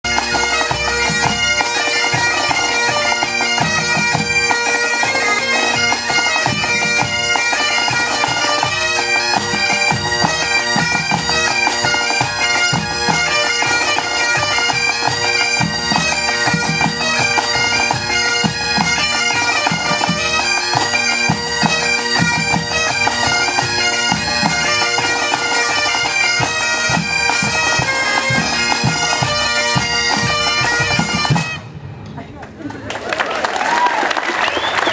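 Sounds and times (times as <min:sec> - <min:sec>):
drums keeping the beat: 0:00.1 - 0:31.6
bagpipes with drones: 0:00.1 - 0:31.8.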